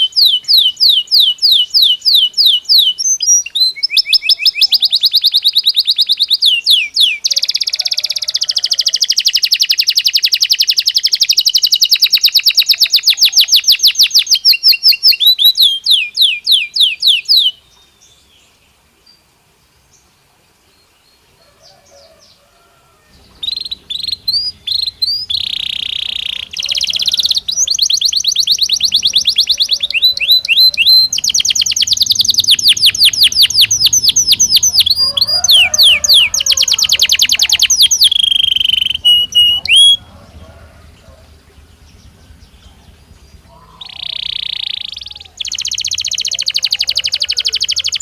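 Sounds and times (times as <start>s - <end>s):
canary singing trills: 0.0s - 18.6s, 20.8s - 48.0s.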